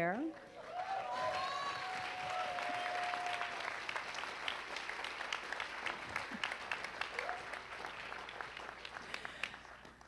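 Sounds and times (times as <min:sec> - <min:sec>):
audience applauding: 0:00.3 - 0:10.0
crowd cheering: 0:00.4 - 0:09.8.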